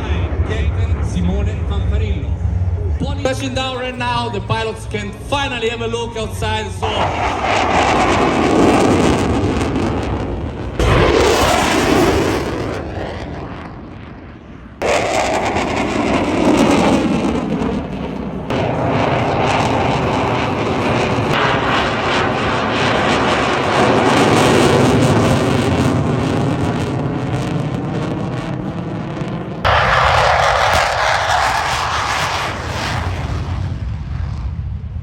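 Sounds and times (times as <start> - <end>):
aircraft engine roar: 0.0 - 35.0.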